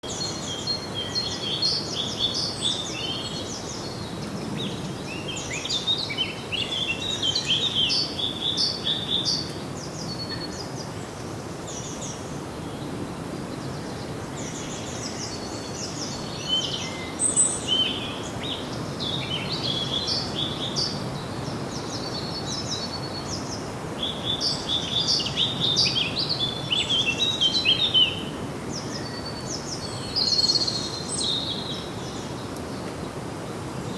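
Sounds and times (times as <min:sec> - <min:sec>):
songbirds chirping and singing: 0:00.0 - 0:11.0, 0:13.6 - 0:33.0.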